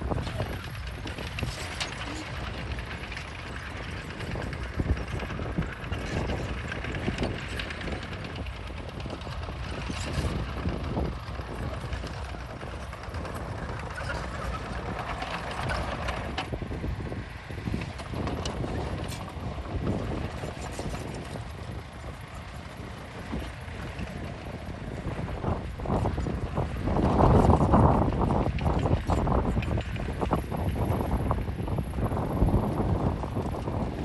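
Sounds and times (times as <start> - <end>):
bulldozer engine running: 0.0 - 34.0.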